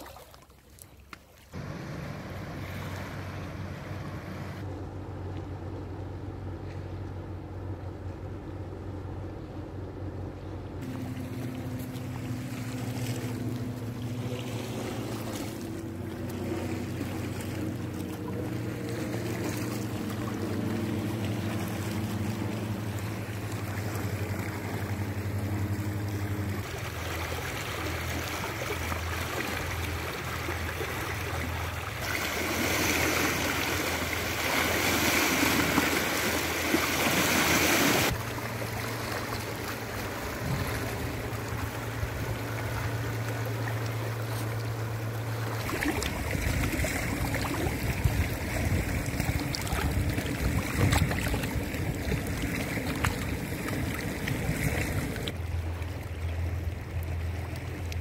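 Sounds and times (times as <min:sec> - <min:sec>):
water splashing over rocks: 0:00.0 - 0:03.5, 0:10.8 - 0:58.0
motorboat engine droning: 0:01.5 - 0:58.0.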